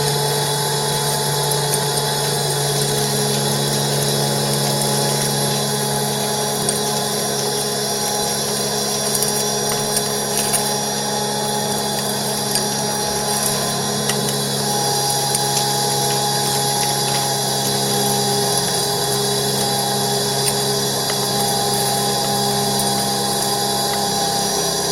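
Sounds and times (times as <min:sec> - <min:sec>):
ash vacuum motor drone: 0:00.0 - 0:24.9.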